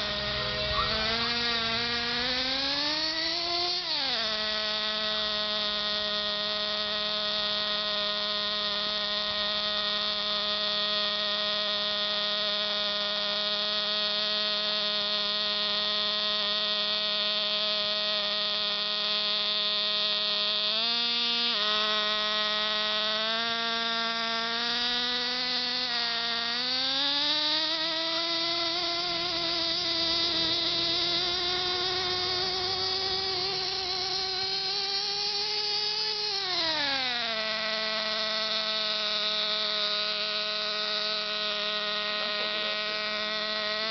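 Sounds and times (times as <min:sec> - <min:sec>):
small nitro engine buzzing: 0:00.0 - 0:43.9.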